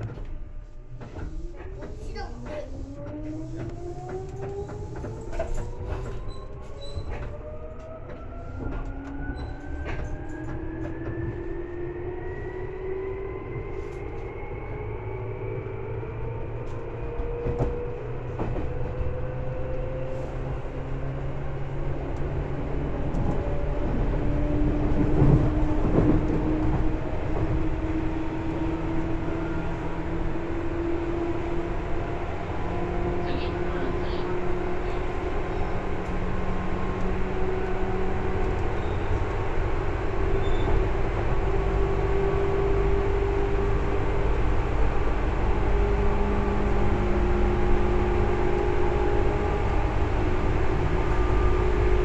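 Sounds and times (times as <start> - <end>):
wheels rumbling on rail: 0.0 - 52.0.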